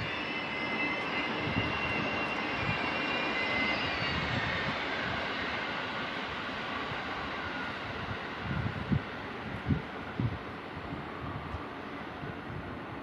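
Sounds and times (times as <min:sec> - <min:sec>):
high-pitched train whine: 0:00.0 - 0:13.0
train rumbling on rails: 0:00.0 - 0:13.0.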